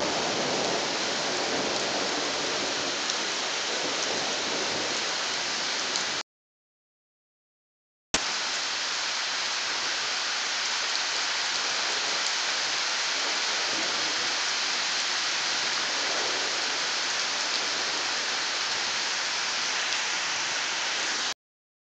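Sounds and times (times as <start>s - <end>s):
steady rain hiss: 0.0s - 6.2s, 8.2s - 21.4s.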